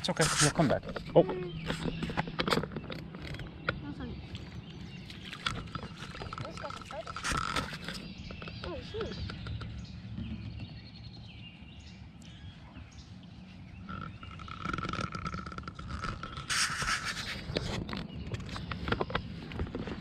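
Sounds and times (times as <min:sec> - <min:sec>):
rustles and light clicks: 0:00.0 - 0:11.3, 0:13.9 - 0:20.0
wind rumble on microphone: 0:00.0 - 0:20.0.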